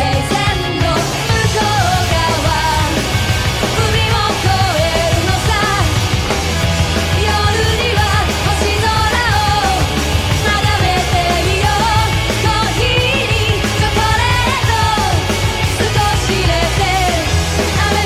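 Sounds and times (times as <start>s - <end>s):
woman singing: 0.0s - 6.0s, 7.0s - 18.0s
bass guitar: 0.0s - 18.0s
drums: 0.0s - 18.0s
electric guitar: 0.0s - 18.0s.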